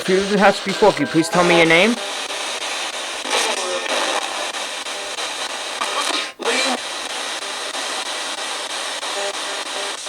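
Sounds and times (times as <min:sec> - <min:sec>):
radio static hiss: 0:00.0 - 0:10.0
snatches of broadcast sound: 0:00.0 - 0:10.0.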